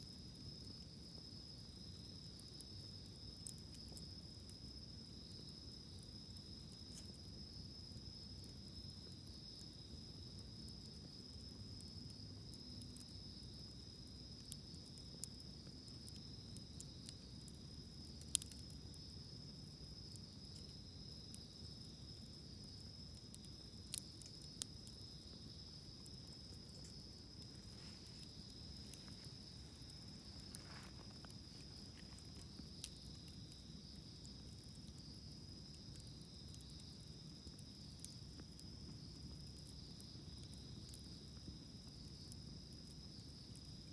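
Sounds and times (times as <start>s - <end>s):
campfire crackling and popping: 0.0s - 43.9s
insect chorus: 0.0s - 43.9s.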